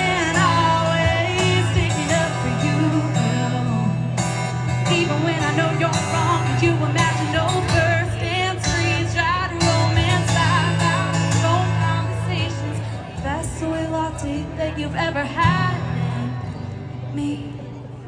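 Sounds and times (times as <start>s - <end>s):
woman singing with vibrato: 0.0s - 17.7s
acoustic guitar: 0.0s - 18.0s.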